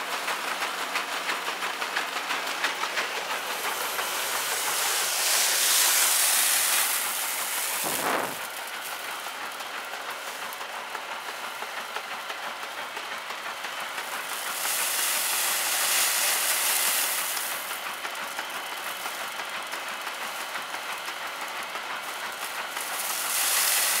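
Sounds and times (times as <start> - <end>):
threshing machine clattering: 0.0 - 24.0.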